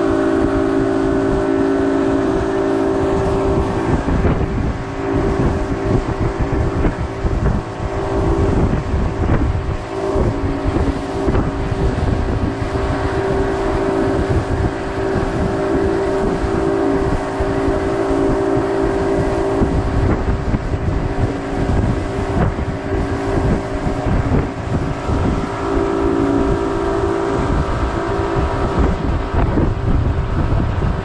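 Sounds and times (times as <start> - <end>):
outboard motor running: 0.0 - 31.0
wind buffeting microphone: 0.0 - 31.0.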